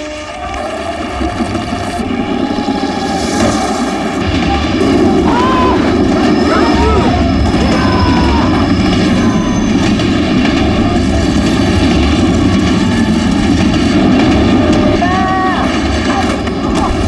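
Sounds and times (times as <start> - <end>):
subway train rumbling in tunnel: 0.0 - 17.0.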